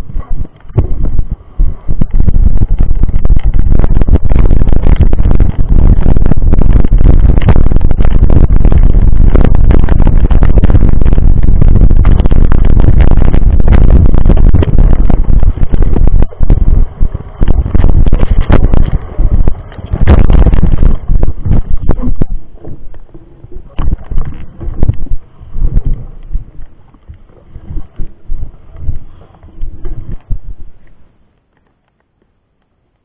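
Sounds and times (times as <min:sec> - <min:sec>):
wind buffeting on microphone: 0:00.0 - 0:31.4.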